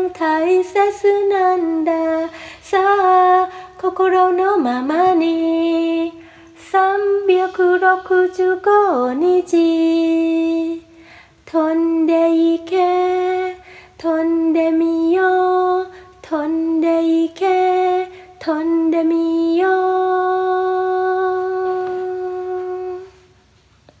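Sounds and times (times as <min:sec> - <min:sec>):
woman singing unaccompanied: 0:00.0 - 0:23.4.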